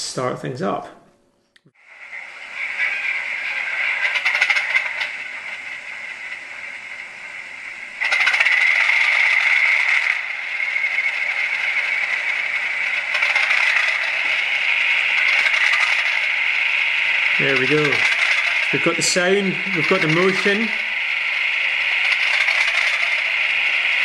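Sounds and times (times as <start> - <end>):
tinny locomotive engine sound: 1.8 - 24.0.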